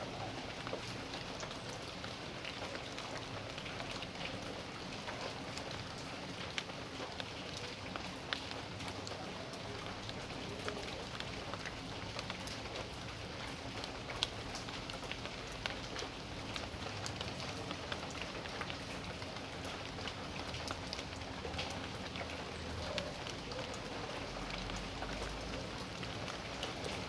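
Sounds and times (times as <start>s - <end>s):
raindrops tapping on surfaces: 0.0s - 27.0s
steady rain hiss: 0.0s - 27.0s.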